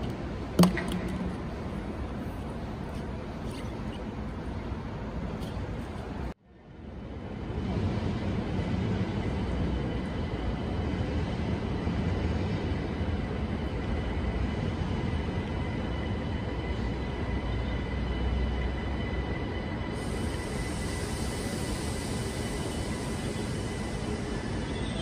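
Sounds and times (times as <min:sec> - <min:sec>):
train rumbling slowly: 0:00.0 - 0:25.0.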